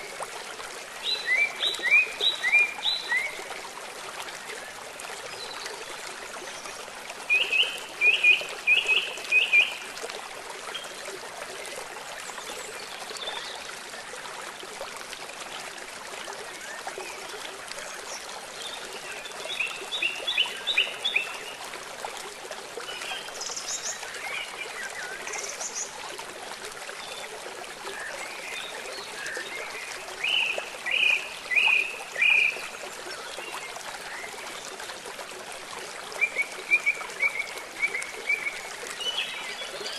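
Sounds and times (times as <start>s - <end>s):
rain: 0.0s - 39.9s
river water flowing: 0.0s - 39.9s.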